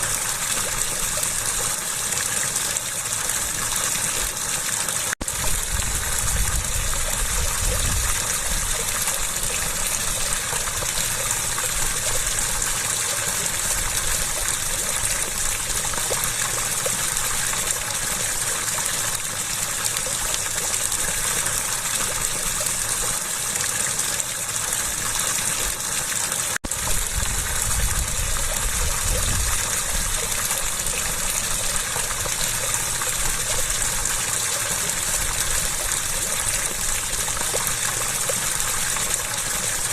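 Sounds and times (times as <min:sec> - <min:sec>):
water gushing and splashing: 0:00.0 - 0:39.9.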